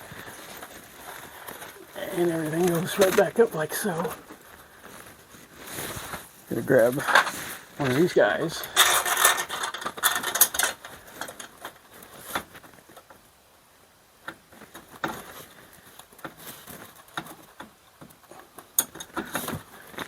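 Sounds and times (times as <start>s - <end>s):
rustling of small hardware: 0.0s - 13.2s, 14.3s - 20.0s.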